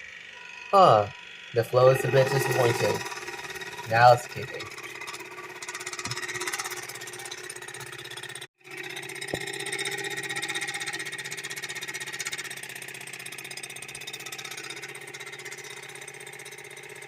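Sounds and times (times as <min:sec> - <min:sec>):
water flosser pump buzzing: 0:00.0 - 0:17.0.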